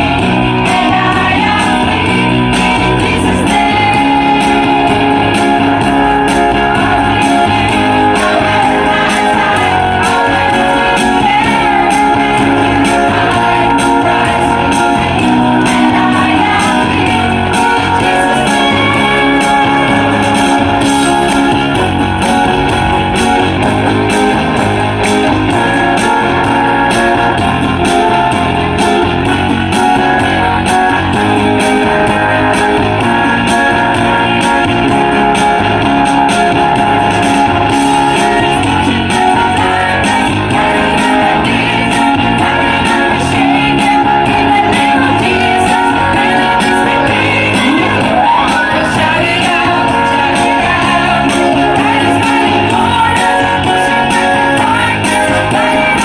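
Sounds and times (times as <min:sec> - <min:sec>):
women singing into microphones: 0:00.0 - 0:28.0, 0:36.8 - 0:56.0
guitar-led backing music: 0:00.0 - 0:56.0.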